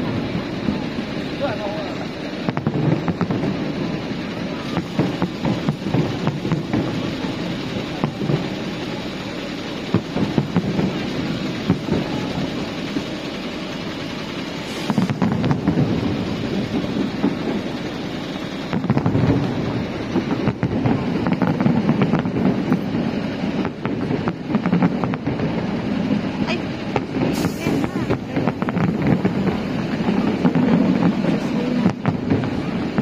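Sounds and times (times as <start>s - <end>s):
fireworks booming: 0.0s - 33.0s
fireworks crackling: 0.0s - 33.0s.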